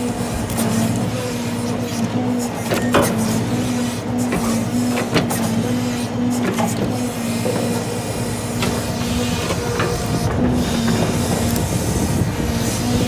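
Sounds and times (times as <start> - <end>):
diesel engine running: 0.0 - 13.0
hydraulic whine: 0.0 - 13.0.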